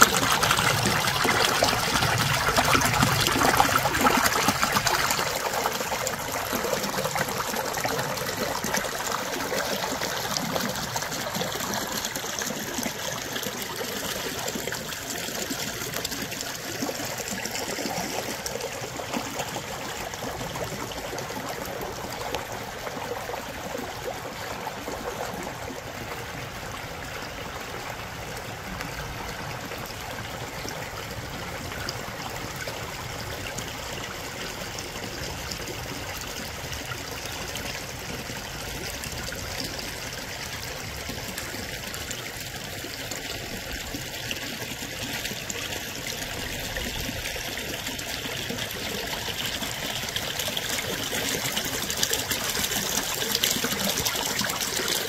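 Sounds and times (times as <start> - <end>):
creek babbling over rocks: 0.0 - 55.0.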